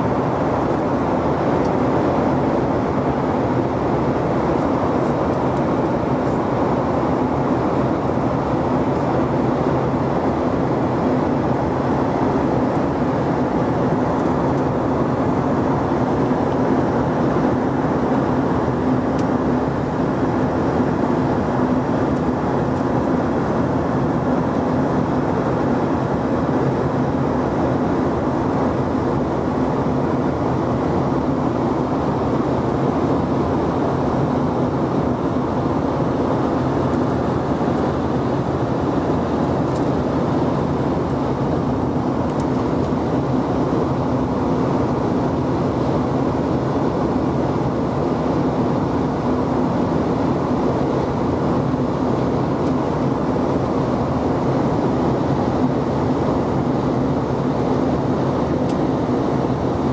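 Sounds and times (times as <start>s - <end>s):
airflow rush in jet cabin: 0.0s - 59.9s
jet engines: 0.0s - 59.9s.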